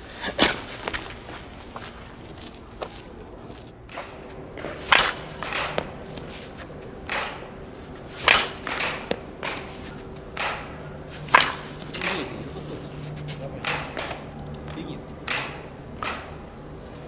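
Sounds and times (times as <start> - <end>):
baseball bat hitting balls: 2.6 - 17.0.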